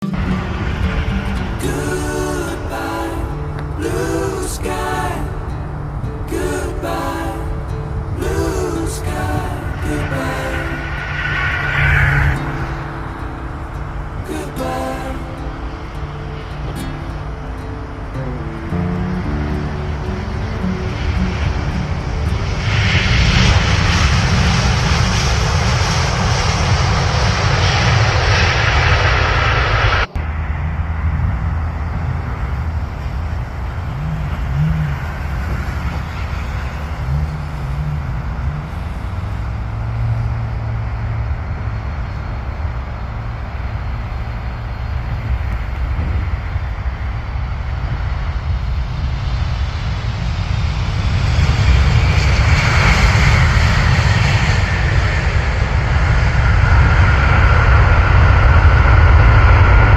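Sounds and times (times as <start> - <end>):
jet engine roar: 0.0 - 59.9.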